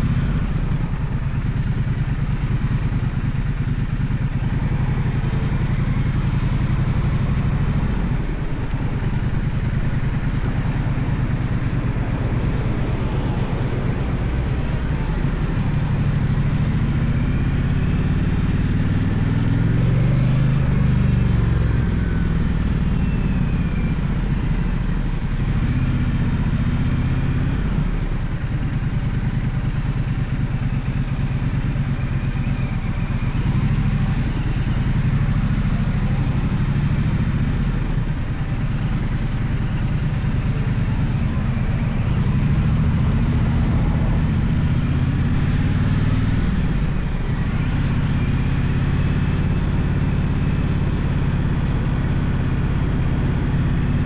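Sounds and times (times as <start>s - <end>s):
motorcycle engine revving: 0.0s - 27.9s, 28.6s - 54.0s.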